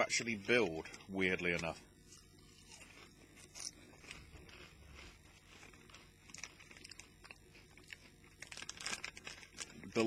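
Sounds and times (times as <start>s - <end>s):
chewing crisp crunches: 0.8s - 10.0s.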